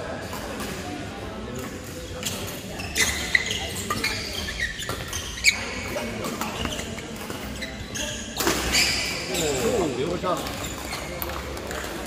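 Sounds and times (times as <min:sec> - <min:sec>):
racquets hitting shuttlecock: 0:00.2 - 0:07.6, 0:08.4 - 0:12.0
shoes squeaking on court: 0:01.5 - 0:12.0.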